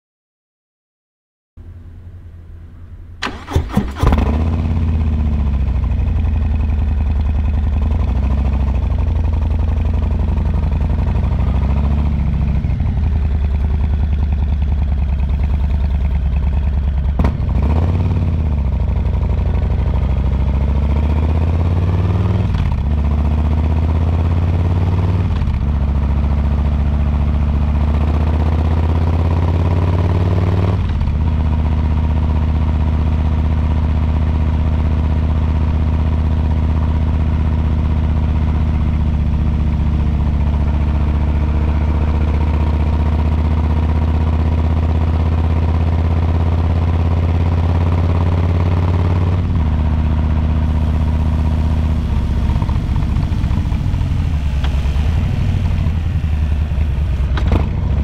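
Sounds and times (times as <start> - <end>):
motorcycle engine starting and idling: 2.5 - 58.0.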